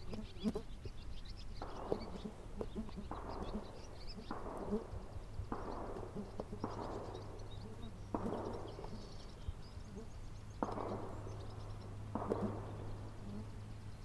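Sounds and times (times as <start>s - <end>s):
faint birdsong: 0.0s - 14.0s
distant pistol shots with echo: 1.6s - 13.5s.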